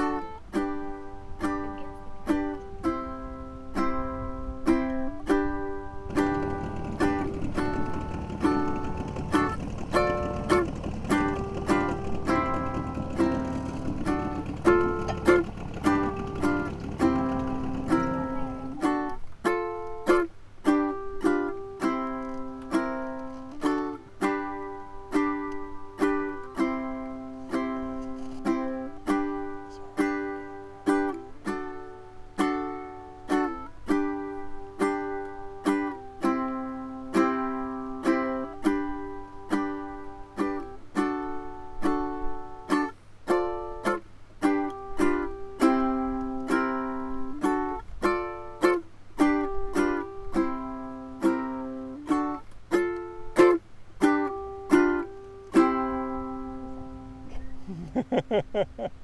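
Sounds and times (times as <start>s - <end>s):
plucked string instrument strumming: 0.0s - 59.0s.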